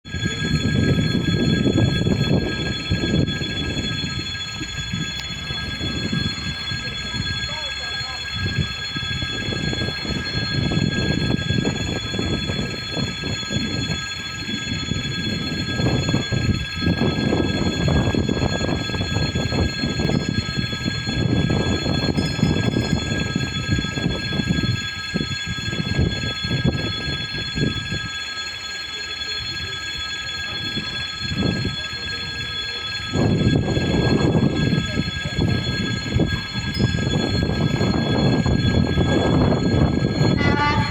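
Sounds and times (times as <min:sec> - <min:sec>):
locomotive rumble: 0:00.1 - 0:24.7, 0:30.2 - 0:40.9
high-pitched steady tones: 0:00.1 - 0:40.9.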